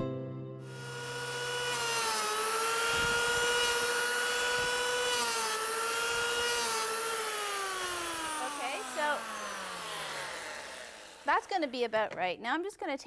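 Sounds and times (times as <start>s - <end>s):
power planer motor whine: 0.6s - 11.9s.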